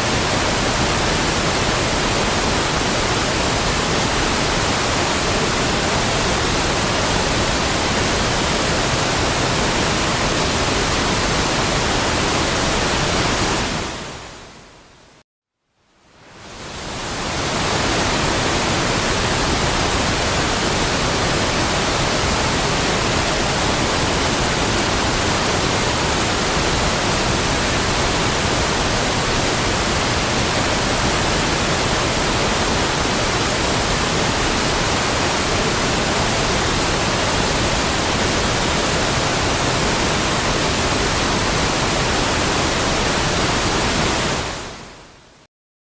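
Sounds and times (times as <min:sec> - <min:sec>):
waterfall rushing: 0:00.0 - 0:14.3, 0:16.5 - 0:44.9.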